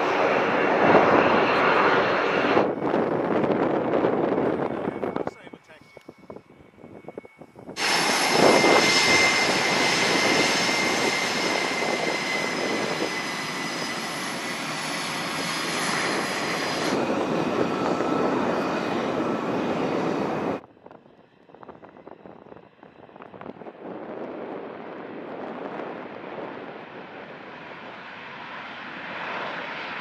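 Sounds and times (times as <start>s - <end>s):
jet engine roar with whine: 0.0s - 30.0s.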